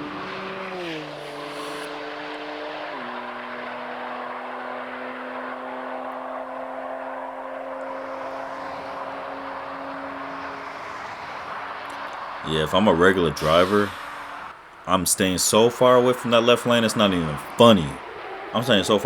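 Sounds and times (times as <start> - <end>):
car engine at high speed: 0.0 - 19.0.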